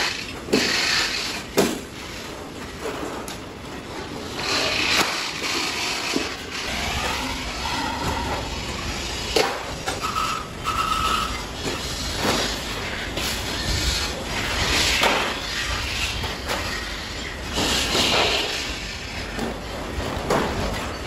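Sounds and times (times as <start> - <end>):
shears cutting steel sheet: 0.0 - 1.9, 4.3 - 19.4.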